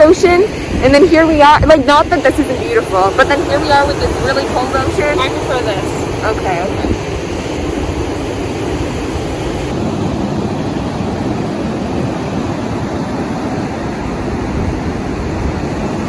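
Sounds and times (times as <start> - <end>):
ocean surf: 0.0 - 16.0
wind buffeting microphone: 0.0 - 16.0.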